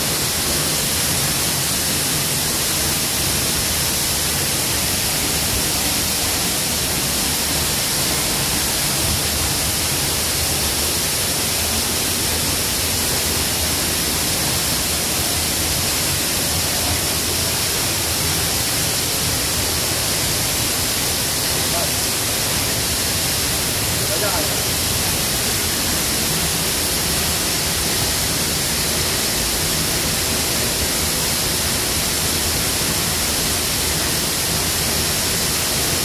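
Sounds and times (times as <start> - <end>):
waterfall rushing water: 0.0 - 36.0.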